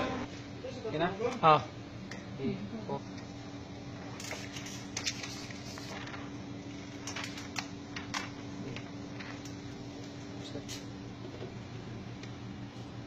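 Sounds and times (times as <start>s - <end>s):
copier humming: 0.0s - 13.0s.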